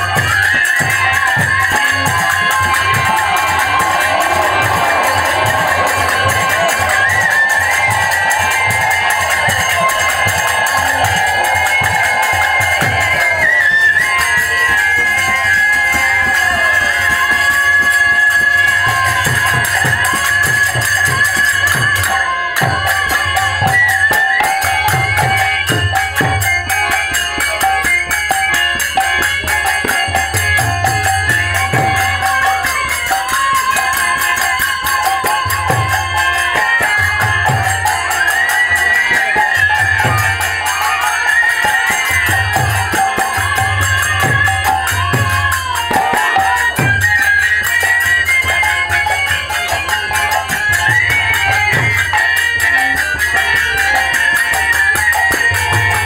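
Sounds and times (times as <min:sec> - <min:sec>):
wavering melody over held tones: 0:00.0 - 0:56.0.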